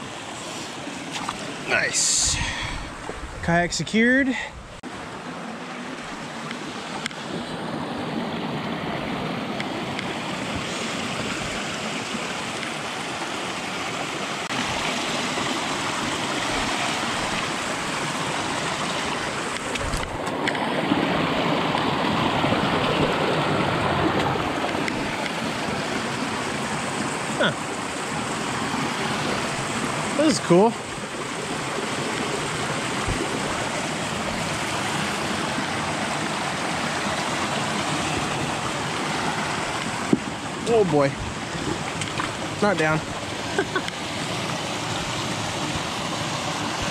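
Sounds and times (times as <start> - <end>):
creek rushing over stones: 0.0 - 46.9.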